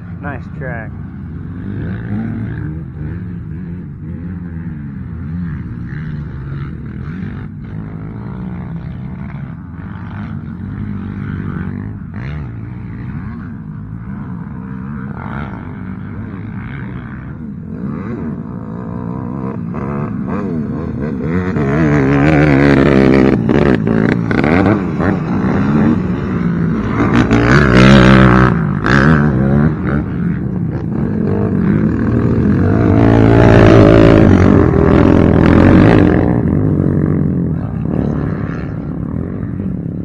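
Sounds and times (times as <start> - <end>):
quad engines revving: 0.0 - 40.0.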